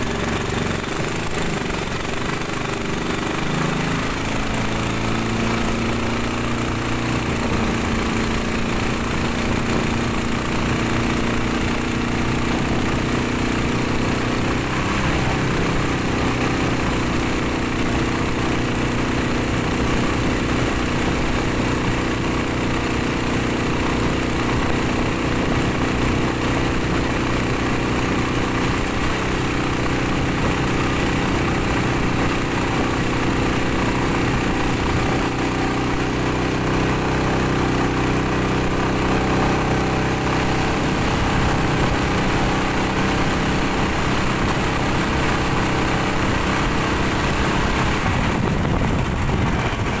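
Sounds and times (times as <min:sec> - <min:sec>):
small boat engine running: 0:00.0 - 0:50.0.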